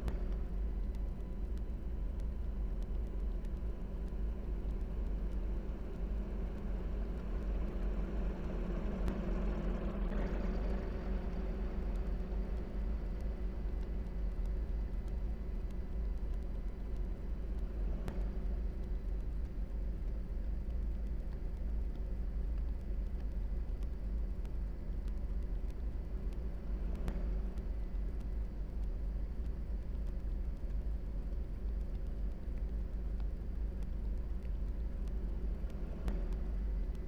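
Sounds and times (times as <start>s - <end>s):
deep rumbling noise with hiss: 0.0s - 37.0s.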